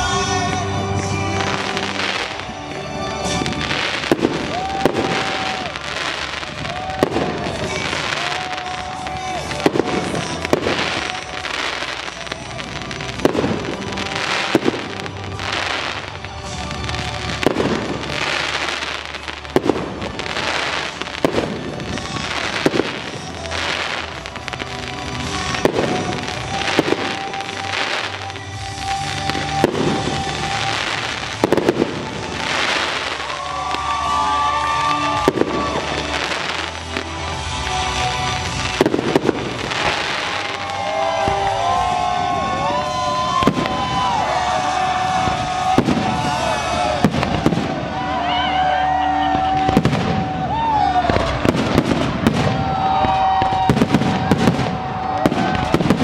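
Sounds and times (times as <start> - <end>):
fireworks bursting with sharp bangs: 0.0 - 48.3, 49.2 - 56.0
music playing: 0.0 - 56.0.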